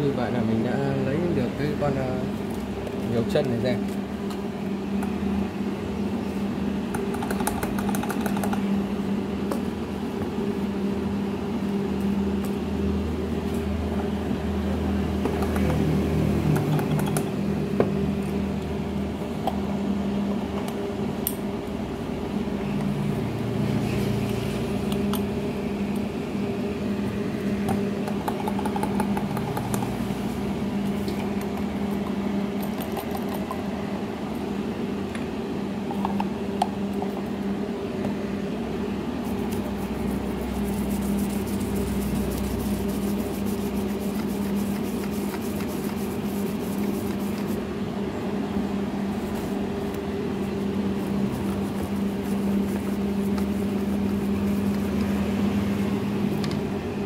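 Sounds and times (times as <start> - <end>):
steady low hum with whir: 0.0 - 57.0.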